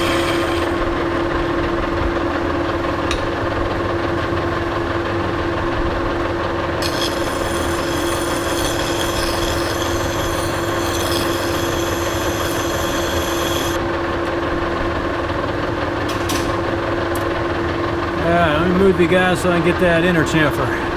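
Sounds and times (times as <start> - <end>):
lathe humming and whining: 0.0 - 20.9.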